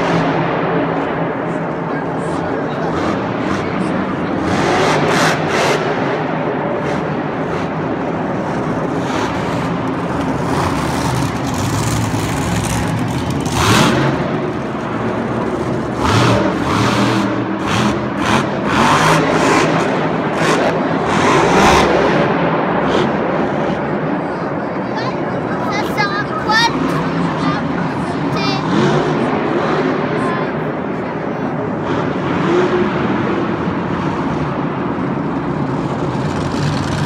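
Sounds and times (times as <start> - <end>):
monster truck engine revving: 0.0 - 24.3, 25.5 - 37.0.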